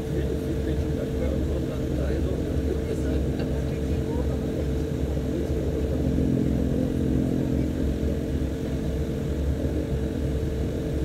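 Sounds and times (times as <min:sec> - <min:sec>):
turboprop engine droning: 0:00.0 - 0:11.0.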